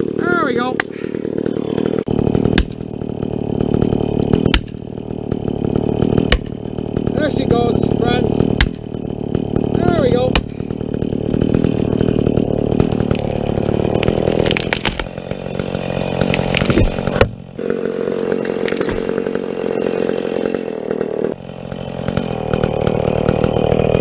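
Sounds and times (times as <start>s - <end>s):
chainsaw cutting tree: 0.0s - 24.0s.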